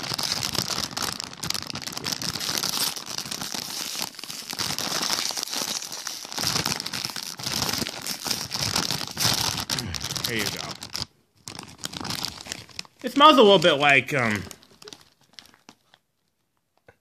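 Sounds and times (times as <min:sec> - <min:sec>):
chip bag crinkling: 0:00.0 - 0:16.4.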